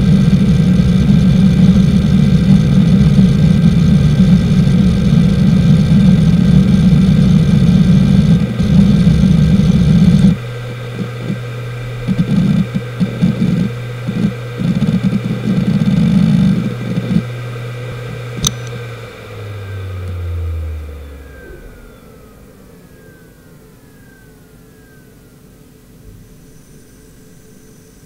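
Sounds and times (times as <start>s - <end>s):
hard drive seek noise: 0.0s - 28.0s
hard drive spinning hum: 0.0s - 28.0s.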